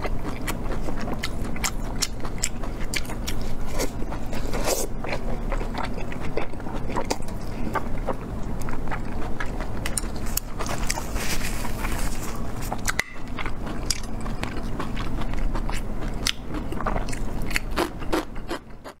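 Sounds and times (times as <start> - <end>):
chewing and biting food: 0.0 - 19.0.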